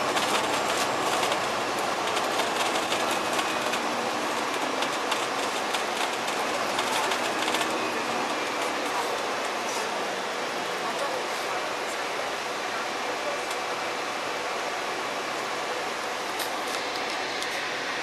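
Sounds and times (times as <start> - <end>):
bus engine drone: 0.0 - 18.0.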